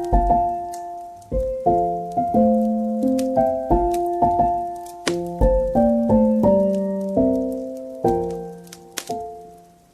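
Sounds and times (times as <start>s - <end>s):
soft piano music: 0.0s - 9.9s
wood fire crackling: 0.0s - 9.9s.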